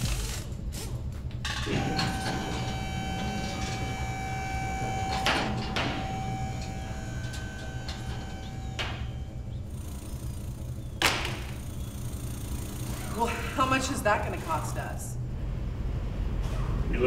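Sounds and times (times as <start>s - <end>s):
machine hum with held tone: 0.0s - 16.6s.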